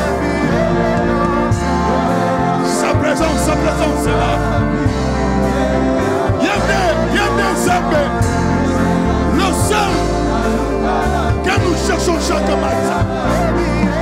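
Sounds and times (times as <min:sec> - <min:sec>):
choir singing: 0:00.0 - 0:14.0
held bass line: 0:00.0 - 0:14.0
sustained instrumental chords: 0:00.0 - 0:14.0.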